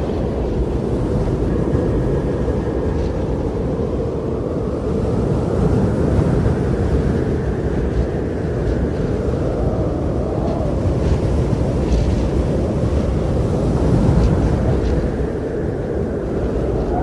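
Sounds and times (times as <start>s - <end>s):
strong blizzard wind: 0.0s - 17.0s.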